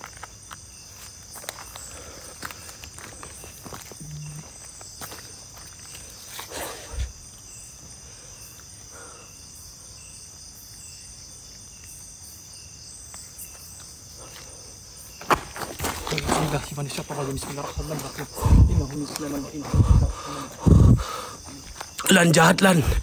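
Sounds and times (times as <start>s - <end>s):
crickets and insects droning: 0.0s - 23.0s
insect chirp: 0.0s - 23.0s.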